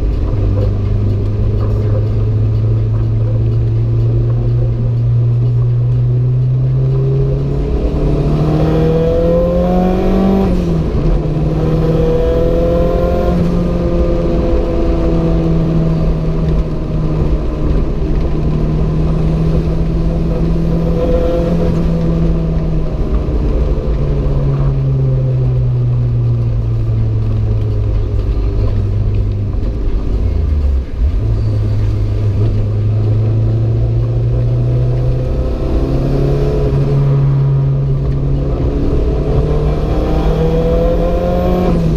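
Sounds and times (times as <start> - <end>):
car engine revving through gears: 0.0 - 41.9.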